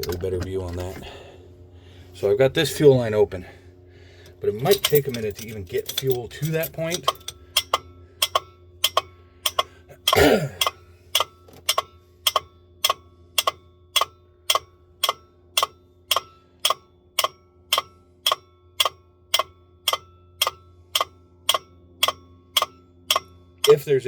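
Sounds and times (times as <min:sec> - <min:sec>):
faint low hum: 0:00.0 - 0:24.0
steady ticking: 0:04.2 - 0:24.0.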